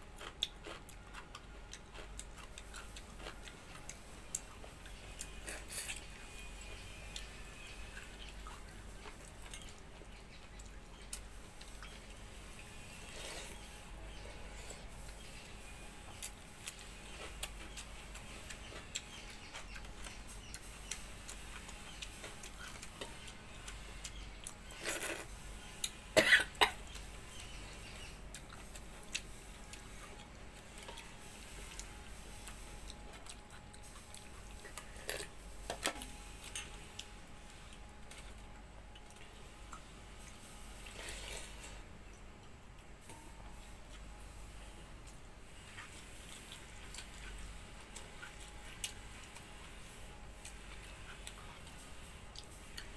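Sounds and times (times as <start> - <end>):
person chewing: 0.1 - 26.0, 26.7 - 42.9, 45.0 - 52.9.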